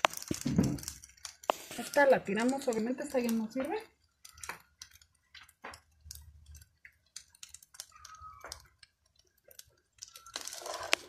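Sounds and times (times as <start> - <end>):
faint clicks and taps: 0.0 - 11.0.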